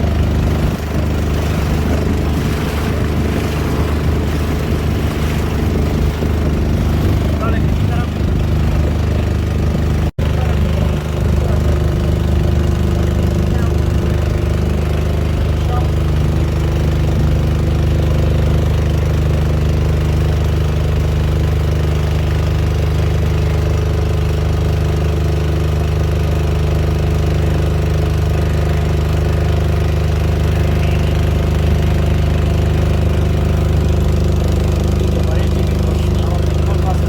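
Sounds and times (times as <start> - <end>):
motorboat engine running: 0.0 - 37.0.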